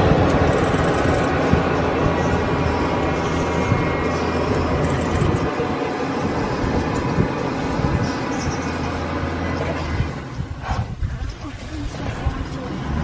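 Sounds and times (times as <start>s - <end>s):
even rushing noise: 0.0s - 13.0s
vehicle engine idling: 0.0s - 13.0s.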